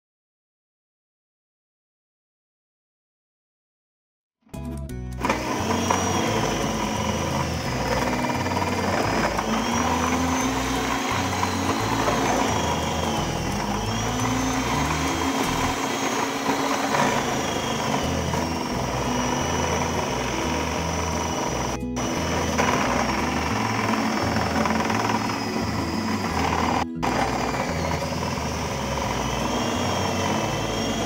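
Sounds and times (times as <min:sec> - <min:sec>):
food processor motor whining: 0:05.1 - 0:31.0.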